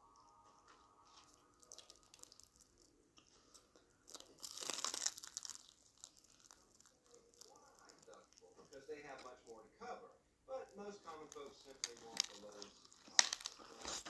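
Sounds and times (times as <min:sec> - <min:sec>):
crunching and chewing fried batter: 0:00.0 - 0:14.0.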